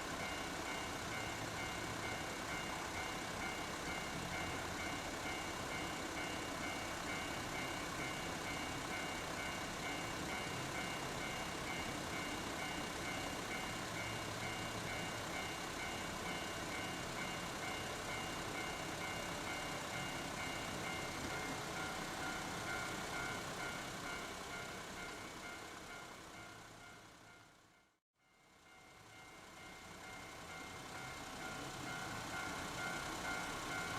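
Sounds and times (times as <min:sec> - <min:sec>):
level crossing warning bell: 0:00.0 - 0:33.9.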